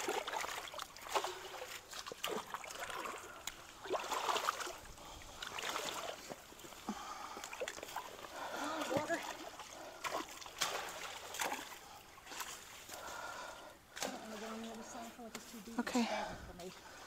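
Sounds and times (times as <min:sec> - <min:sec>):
creek water sloshing and splashing: 0:00.0 - 0:17.0.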